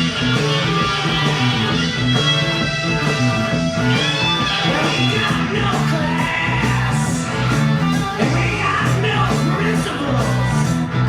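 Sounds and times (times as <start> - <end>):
pulsing bass line: 0.0 - 11.0
rock music with guitar: 0.0 - 11.0.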